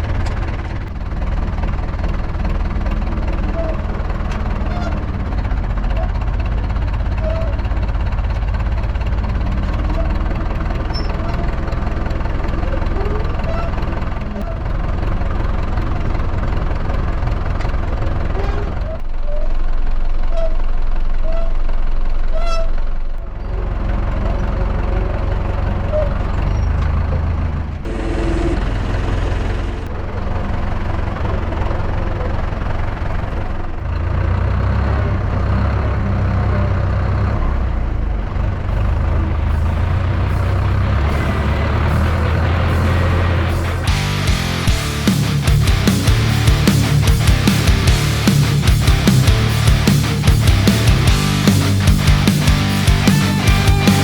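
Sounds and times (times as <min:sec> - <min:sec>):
tractor diesel engine running: 0:00.0 - 0:22.2, 0:23.0 - 0:54.0.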